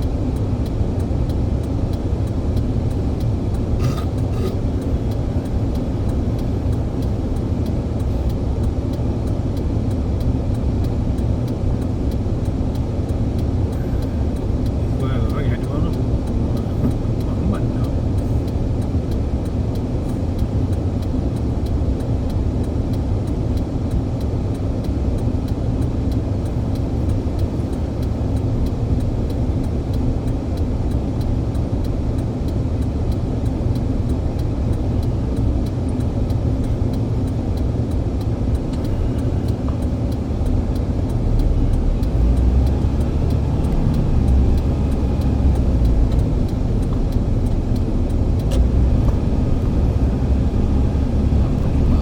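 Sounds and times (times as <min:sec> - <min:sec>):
vehicle rumbling: 0:00.0 - 0:52.0.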